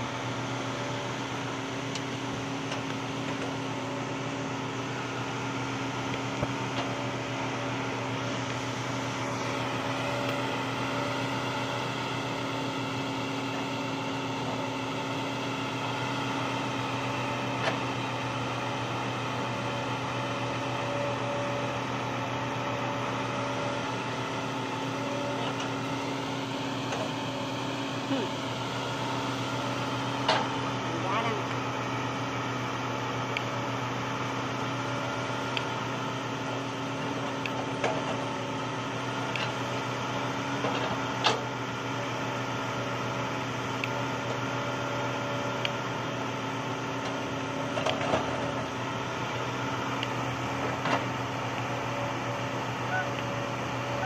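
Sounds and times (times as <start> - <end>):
heavy diesel machinery droning: 0.0 - 54.0.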